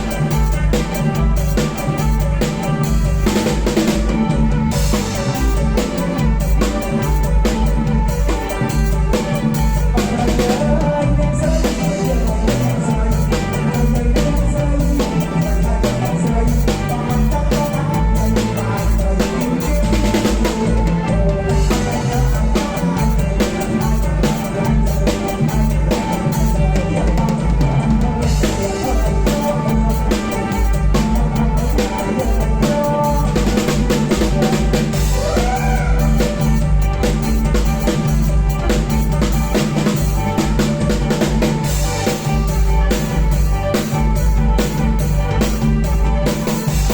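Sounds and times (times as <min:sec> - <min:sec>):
drum kit beat: 0:00.0 - 0:46.9
live band music: 0:00.0 - 0:46.9.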